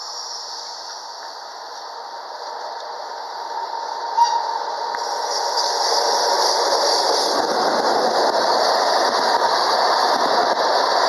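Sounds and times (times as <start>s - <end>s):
freight train wheels rolling: 0.0s - 11.0s.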